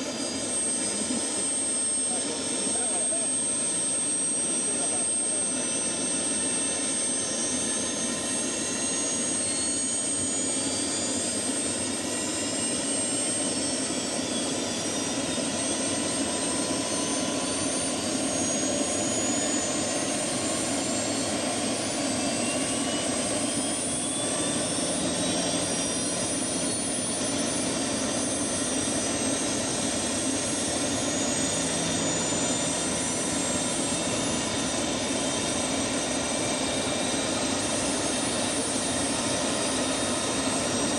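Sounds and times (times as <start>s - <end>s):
helicopter rotor noise: 0.0s - 40.9s
turboshaft whine: 0.0s - 40.9s.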